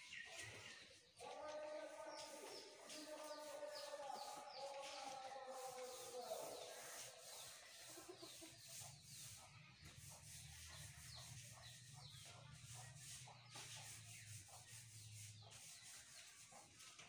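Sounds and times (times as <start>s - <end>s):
scratchy rubbing strokes: 1.2s - 17.0s.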